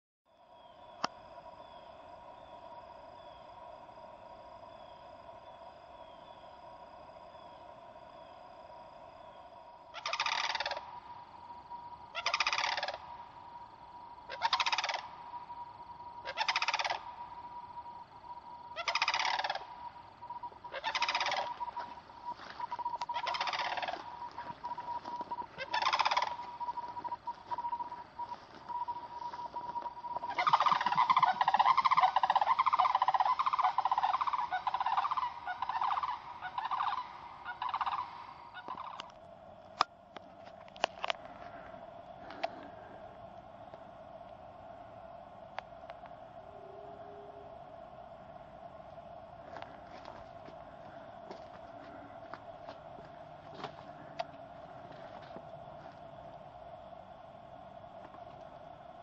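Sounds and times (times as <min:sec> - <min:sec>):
cranes calling: 0:00.5 - 0:56.9.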